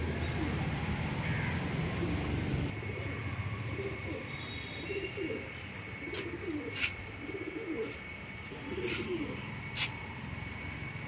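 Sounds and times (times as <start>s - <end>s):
pigeons cooing: 0.0s - 9.8s.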